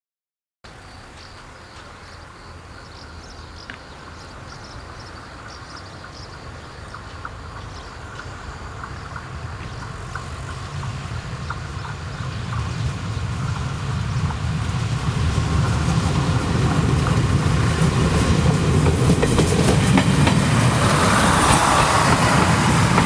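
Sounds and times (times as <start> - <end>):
train rumble: 0.7 - 23.0.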